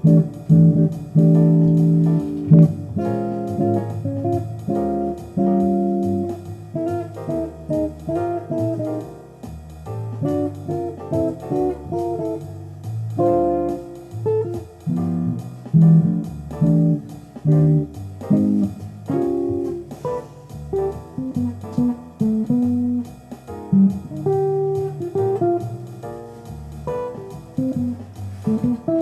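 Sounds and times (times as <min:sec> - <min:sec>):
bass line: 0:00.0 - 0:29.0
jazzy guitar music: 0:00.0 - 0:29.0.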